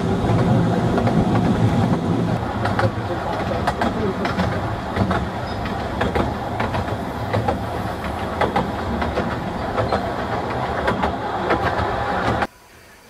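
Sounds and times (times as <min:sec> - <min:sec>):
wheels clicking over rail joints: 0:00.0 - 0:12.5
train rumbling: 0:00.0 - 0:13.0.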